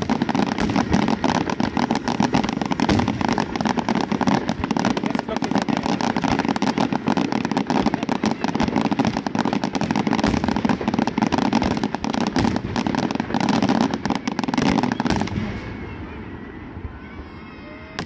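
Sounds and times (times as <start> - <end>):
fireworks cracking and banging: 0.0 - 18.0.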